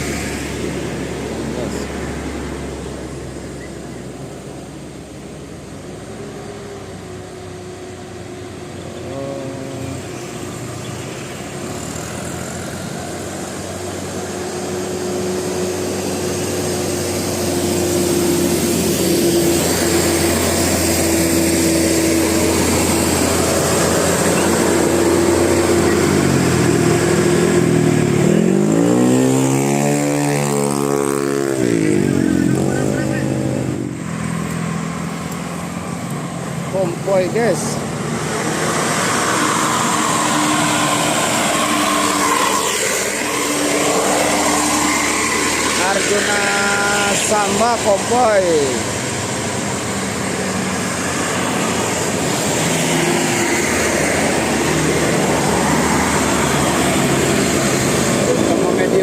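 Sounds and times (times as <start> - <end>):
engine running: 0.0 - 59.0
traffic noise: 0.0 - 59.0.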